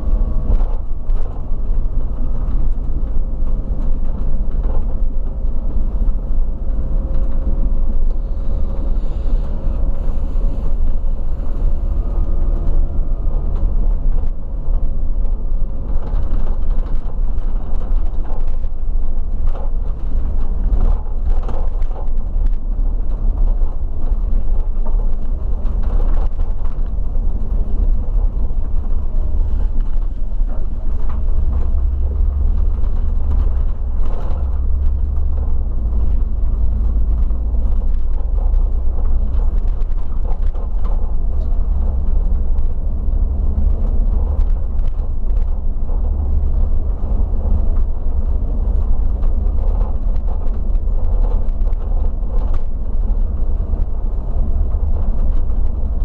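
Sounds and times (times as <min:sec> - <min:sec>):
bus engine and road rumble: 0:00.0 - 0:56.0
vehicle rattles and clicks: 0:00.0 - 0:56.0.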